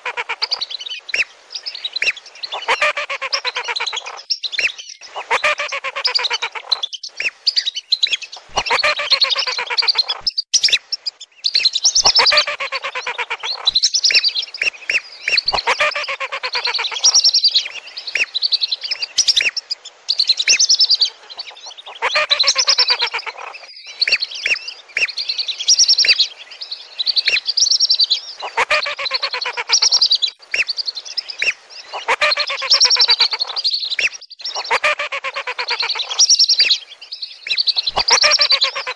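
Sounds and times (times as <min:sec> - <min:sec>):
ducks whistling and chattering: 0:00.0 - 0:38.9.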